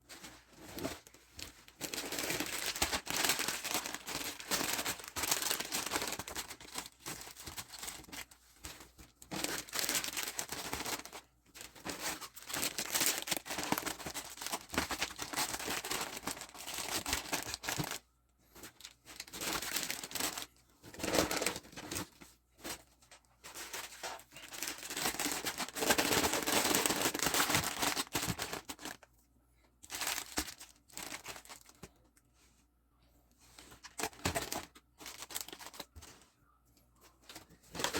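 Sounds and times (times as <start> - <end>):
plastic packaging crinkling: 0.2 - 18.0, 18.6 - 22.2, 23.4 - 29.1, 29.8 - 31.9, 33.6 - 36.1.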